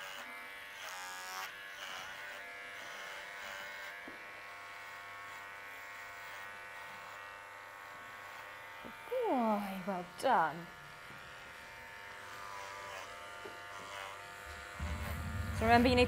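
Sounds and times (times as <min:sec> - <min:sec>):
electric clippers buzzing: 0:00.0 - 0:16.0.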